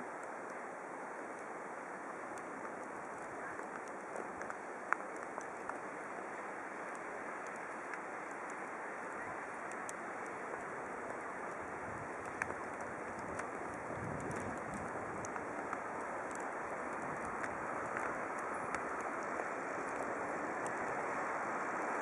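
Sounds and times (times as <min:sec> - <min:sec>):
cars driving on snowy road: 0:00.0 - 0:22.0.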